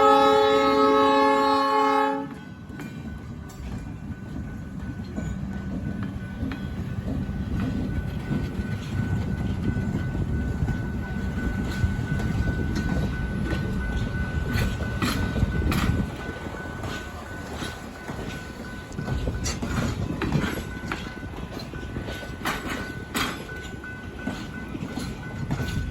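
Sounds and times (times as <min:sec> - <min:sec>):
train wheels rumbling on rails: 0:00.0 - 0:25.9
rail joint clicks: 0:02.2 - 0:25.9.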